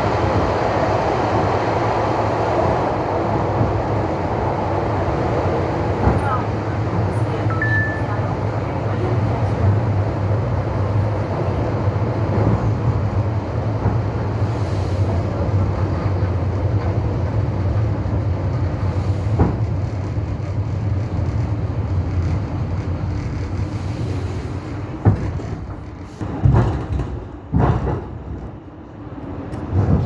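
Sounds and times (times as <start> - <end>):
train rumbling along track: 0.0 - 30.0.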